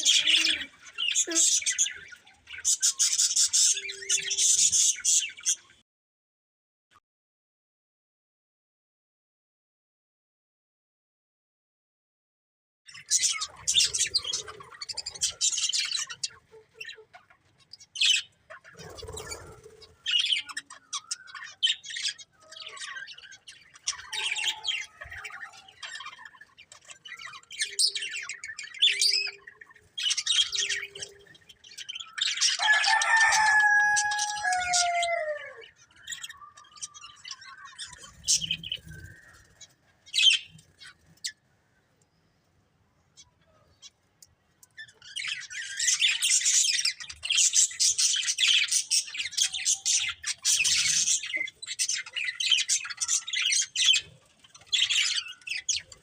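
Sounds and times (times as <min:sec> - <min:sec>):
budgerigars chirping: 0:00.0 - 0:05.7, 0:13.0 - 0:41.3, 0:44.8 - 0:56.0.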